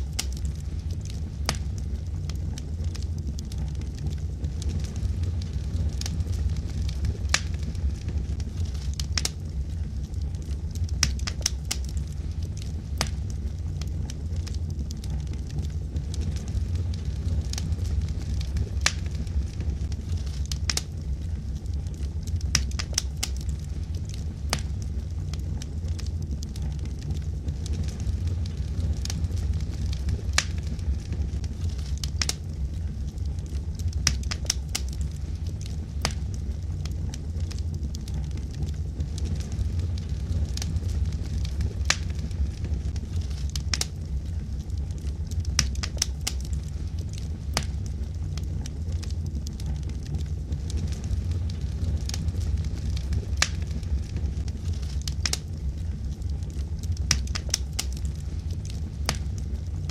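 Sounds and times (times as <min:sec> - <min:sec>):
fire low rumble: 0:00.0 - 0:59.9
wood fire crackling and popping: 0:00.0 - 0:59.9.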